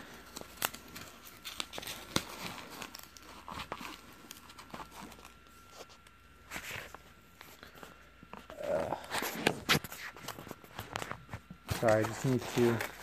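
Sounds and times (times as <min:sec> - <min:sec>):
styrofoam crackling and crunching: 0:00.0 - 0:07.7, 0:08.5 - 0:13.0
styrofoam rustling: 0:00.0 - 0:07.8, 0:08.4 - 0:13.0.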